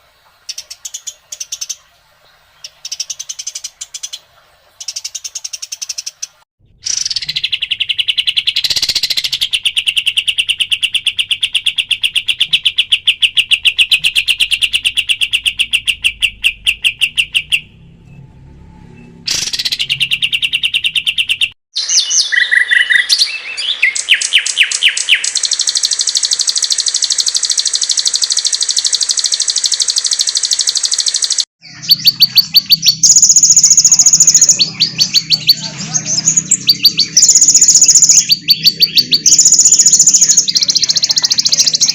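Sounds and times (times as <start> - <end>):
songbird chirps: 0.0 - 41.9
rapid bird trill: 2.6 - 17.8, 19.3 - 41.9.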